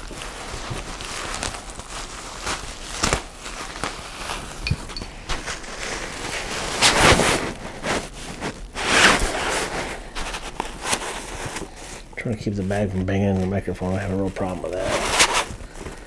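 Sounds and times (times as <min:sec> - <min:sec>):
nylon sack rustling: 0:00.0 - 0:16.0.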